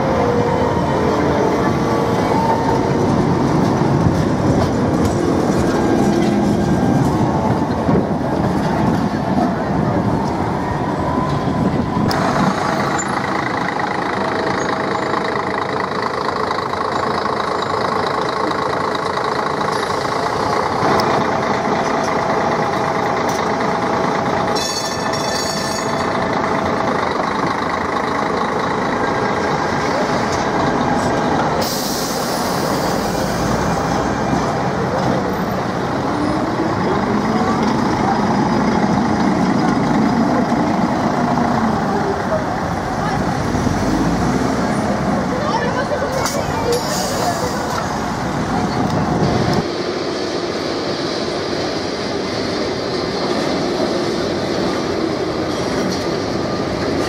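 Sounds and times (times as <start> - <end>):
vehicle running noise: 0.0 - 57.0.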